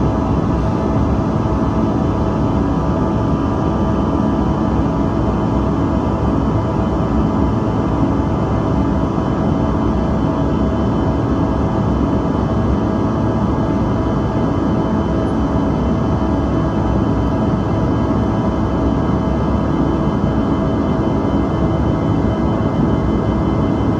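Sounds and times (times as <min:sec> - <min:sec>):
airliner cabin engine whine: 0:00.0 - 0:23.9.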